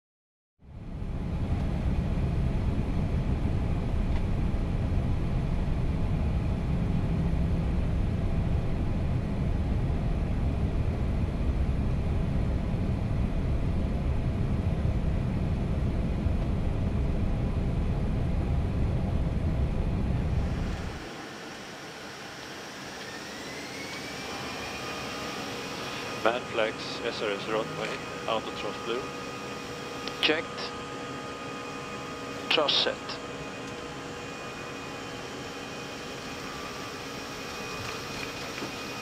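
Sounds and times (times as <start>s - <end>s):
airliner cockpit rumble: 0.6s - 39.0s.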